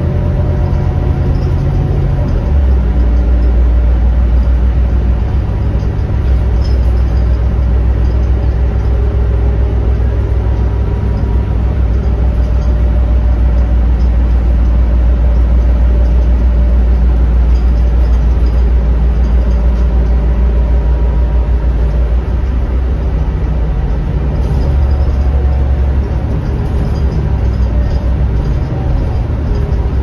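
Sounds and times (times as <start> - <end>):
bus diesel engine hum: 0.0 - 30.0.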